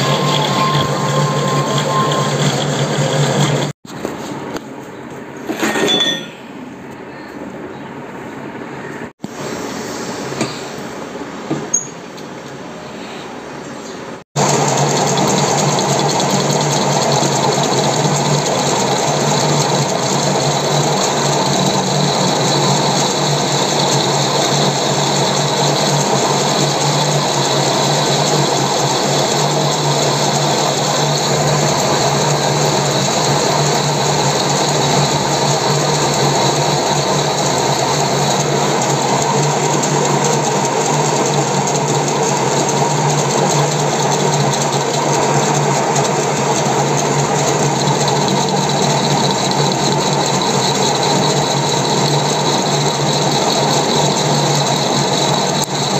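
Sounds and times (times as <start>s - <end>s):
metal lathe running: 0.0s - 3.8s, 14.4s - 55.9s.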